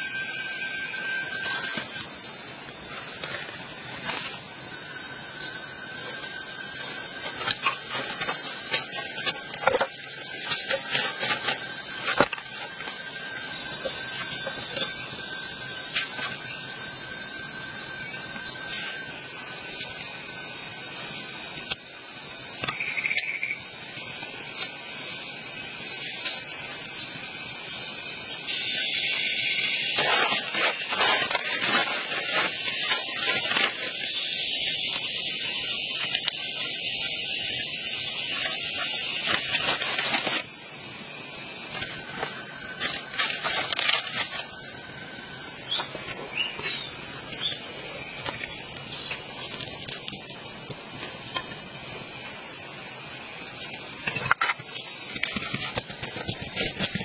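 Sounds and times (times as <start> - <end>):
insects shrilling: 0.0 - 57.0
leaves and sticks rustling: 0.2 - 21.8, 28.5 - 40.6, 41.4 - 52.6, 53.4 - 57.0.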